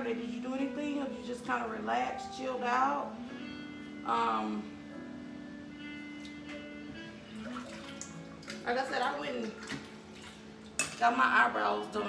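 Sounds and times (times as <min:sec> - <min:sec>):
background jazz music: 0:00.0 - 0:12.0.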